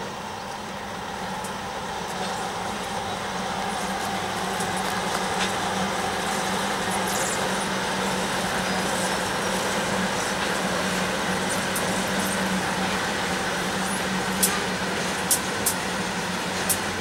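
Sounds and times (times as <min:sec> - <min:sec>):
diesel locomotive engines droning: 0:00.0 - 0:17.0
train wheels rumbling on rail: 0:00.0 - 0:17.0.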